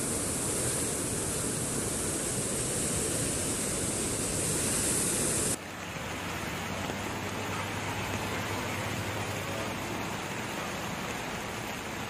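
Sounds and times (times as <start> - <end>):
floodwater roaring: 0.0 - 12.0.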